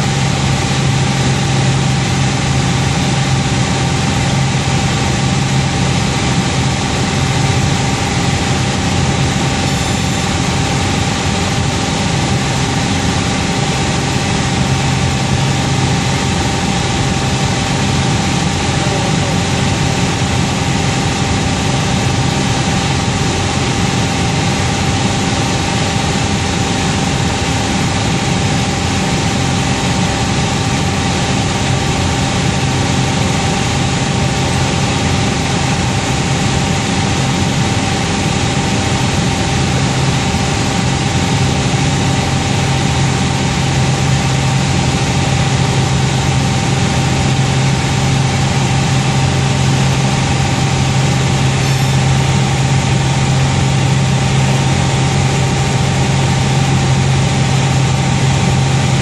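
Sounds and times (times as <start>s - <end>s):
airplane engine drone: 0.0s - 59.0s
low hum: 0.0s - 59.0s.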